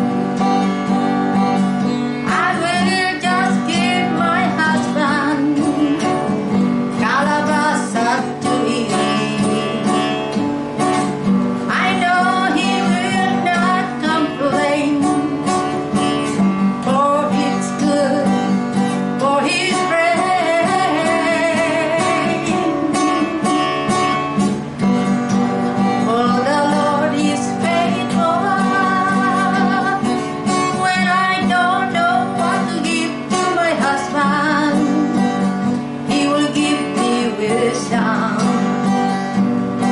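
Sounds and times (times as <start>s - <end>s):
strummed acoustic guitar: 0.0s - 39.9s
woman singing: 1.8s - 24.5s, 25.7s - 39.4s.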